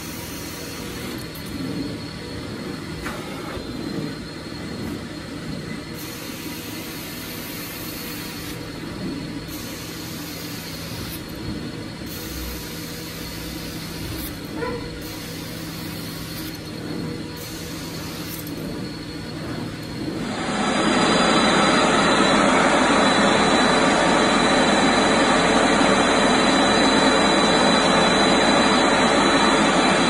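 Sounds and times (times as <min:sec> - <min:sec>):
vacuum suction roar: 0:00.0 - 0:30.0.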